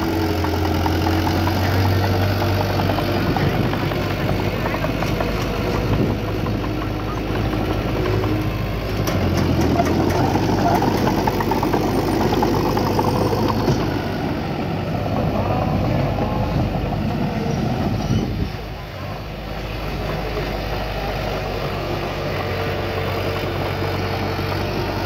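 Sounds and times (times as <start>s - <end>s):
heavy diesel machine running: 0.0s - 25.0s.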